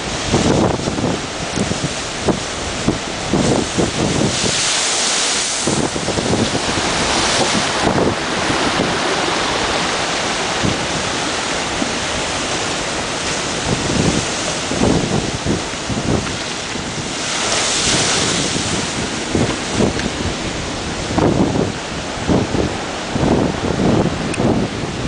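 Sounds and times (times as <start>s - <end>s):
seawater rushing: 0.0s - 25.0s
waves breaking against sea wall: 0.0s - 25.0s
wind buffeting microphone: 0.0s - 25.0s.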